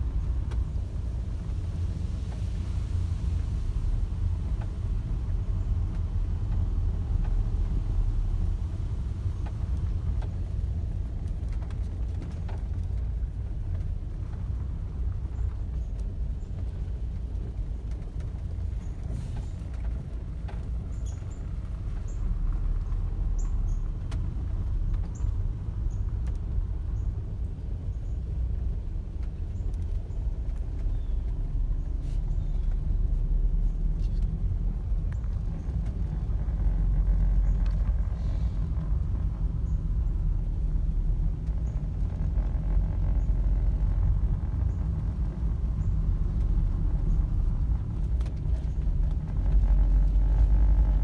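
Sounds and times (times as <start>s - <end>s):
car cabin road rumble: 0.0s - 51.0s.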